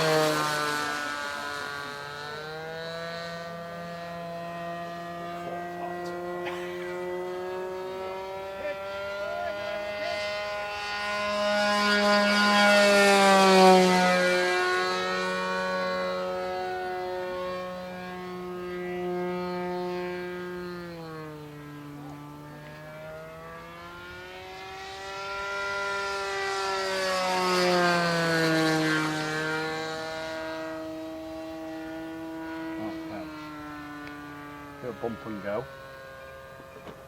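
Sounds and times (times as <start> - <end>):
model plane engine passing: 0.0 - 37.0.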